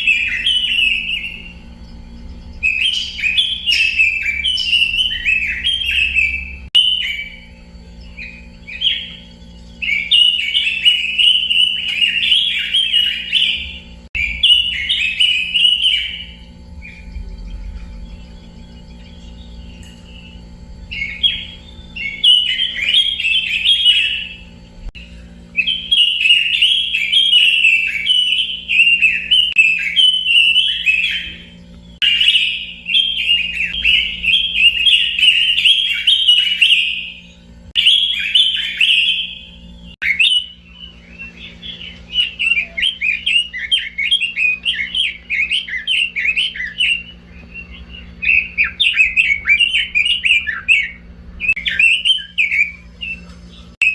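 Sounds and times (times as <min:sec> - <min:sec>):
bird singing high chirps: 0:00.0 - 0:53.9.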